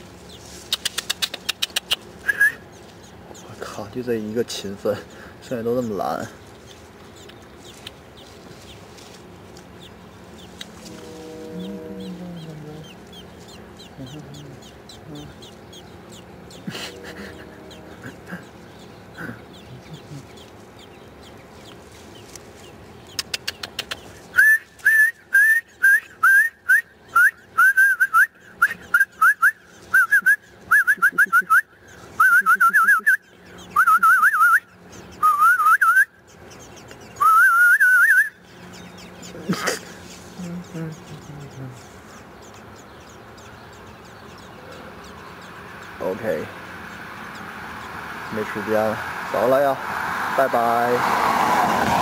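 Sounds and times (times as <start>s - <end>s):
nestlings begging chirps: 0.0s - 51.8s.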